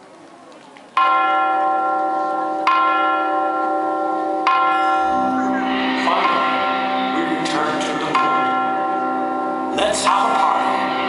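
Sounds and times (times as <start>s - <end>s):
large bell tolling: 1.0s - 11.0s.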